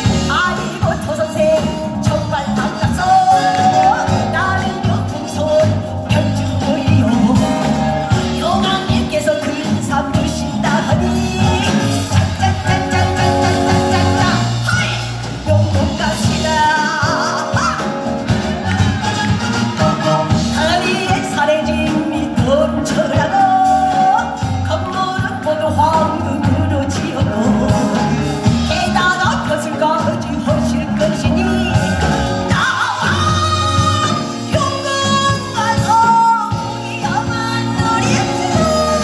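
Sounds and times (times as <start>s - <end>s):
woman singing into microphone: 0.0s - 18.3s, 20.4s - 39.0s.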